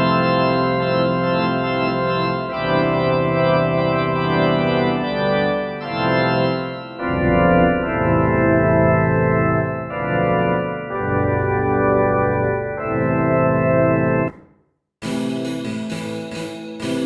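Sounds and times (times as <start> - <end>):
synthesizer organ-like chords: 0.0 - 17.0.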